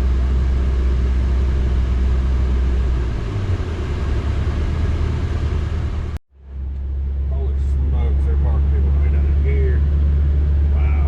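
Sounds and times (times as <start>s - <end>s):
car engine droning: 0.0s - 11.0s
road rumble: 0.0s - 11.0s.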